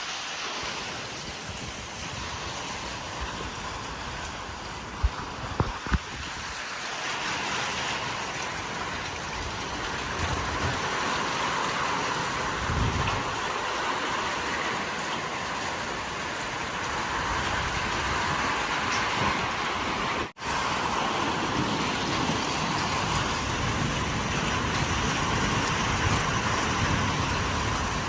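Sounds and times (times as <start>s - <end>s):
driving rain: 0.0s - 28.0s
storm wind: 0.0s - 28.0s.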